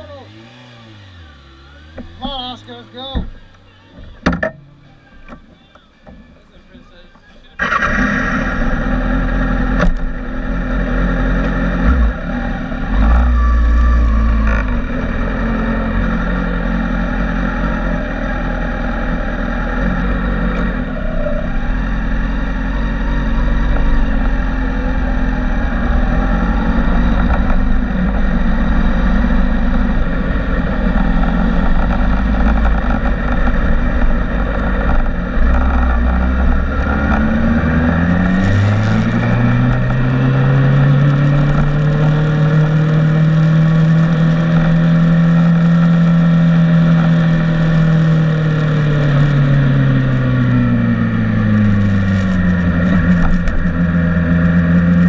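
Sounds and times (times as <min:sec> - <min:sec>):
motorcycle engine idling and pulling away: 0:00.0 - 0:04.8, 0:07.6 - 0:55.0.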